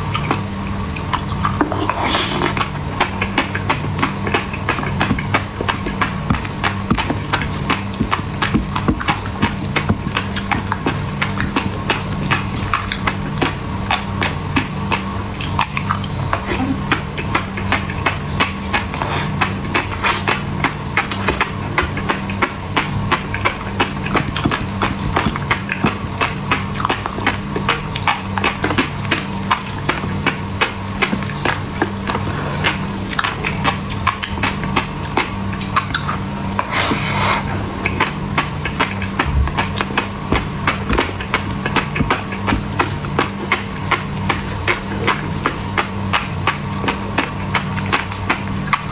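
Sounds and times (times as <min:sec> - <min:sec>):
refrigerator hum: 0:00.0 - 0:48.9.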